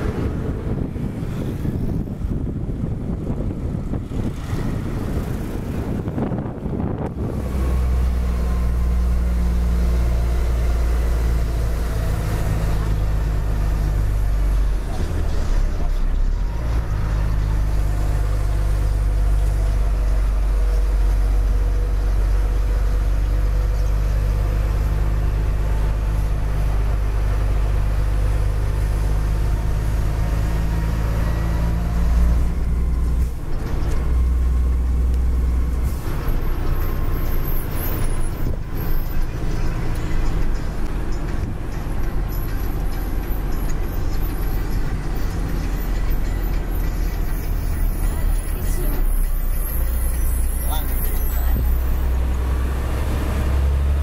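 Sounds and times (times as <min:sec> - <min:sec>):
truck diesel engine drone: 0:00.0 - 0:54.0.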